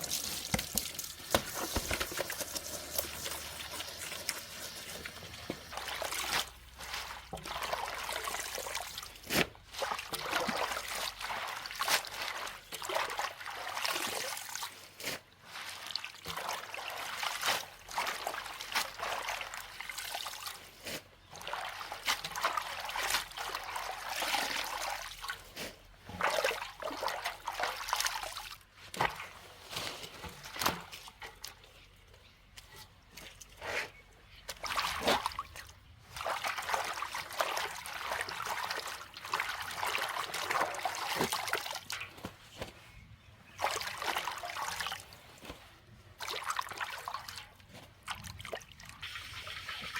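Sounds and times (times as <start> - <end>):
water trickling and splashing: 0.0 - 33.6, 34.2 - 42.6, 43.4 - 49.9.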